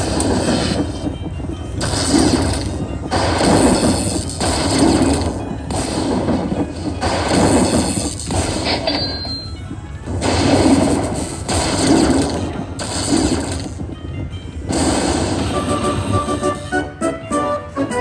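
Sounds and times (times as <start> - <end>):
slot machine dings and clanks: 0.0 - 16.9
slot machine spinning and landing: 0.0 - 17.0.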